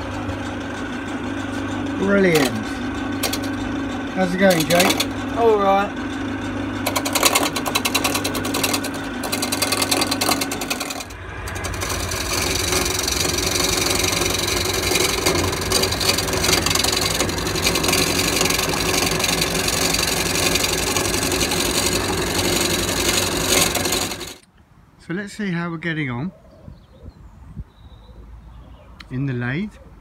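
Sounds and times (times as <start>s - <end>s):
chisel scraping spinning wood: 0.0s - 24.4s
wood lathe motor hum: 0.0s - 24.5s.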